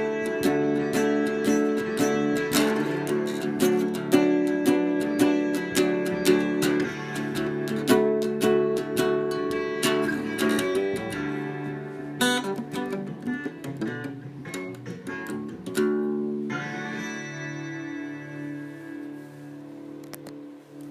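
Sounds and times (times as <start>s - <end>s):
acoustic guitar strummed and picked: 0.0s - 20.9s.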